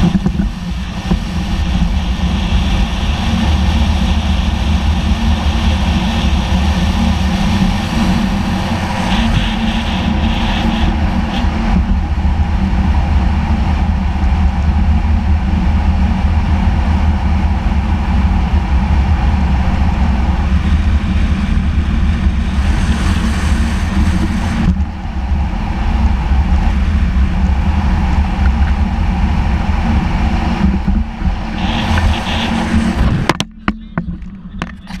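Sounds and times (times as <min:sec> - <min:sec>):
road and engine noise: 0:00.0 - 0:35.0
wind buffeting microphone: 0:00.0 - 0:35.0.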